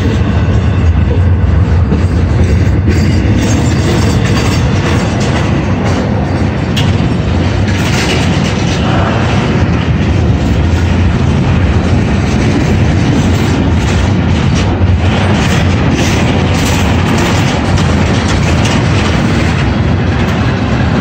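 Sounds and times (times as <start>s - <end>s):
train wheels rolling on track: 0.0s - 21.0s.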